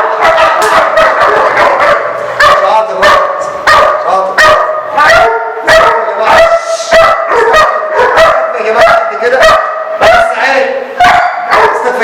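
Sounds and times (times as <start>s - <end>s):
puppy barking rapidly: 0.0s - 12.0s.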